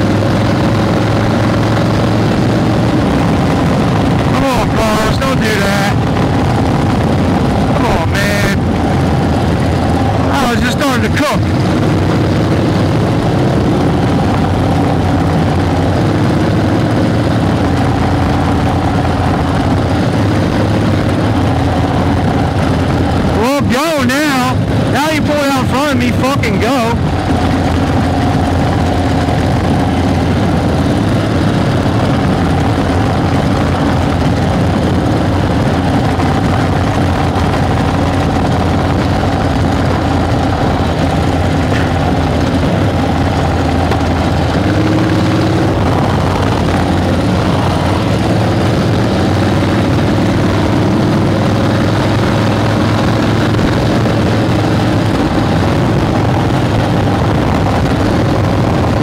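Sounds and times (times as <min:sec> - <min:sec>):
motorcycle engine running under load: 0:00.0 - 0:59.0
rushing noise: 0:00.0 - 0:59.0.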